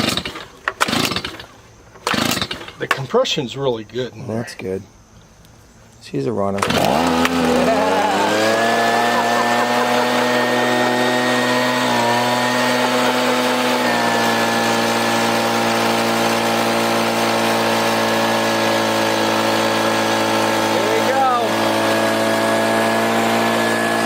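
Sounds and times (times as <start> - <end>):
leaf blower engine running: 0.0 - 3.0, 6.6 - 24.0.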